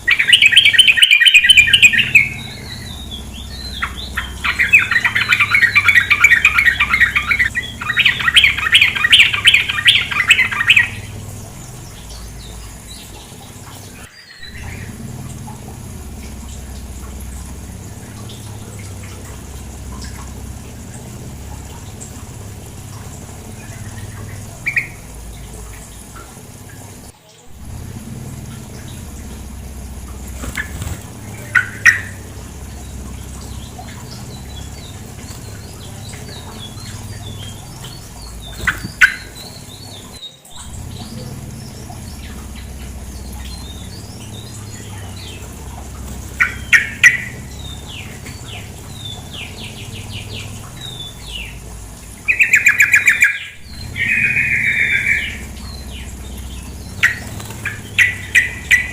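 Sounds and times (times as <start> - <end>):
bird calling: 0.0 - 58.9
bird chattering: 0.0 - 58.9
flowing water: 0.0 - 58.9.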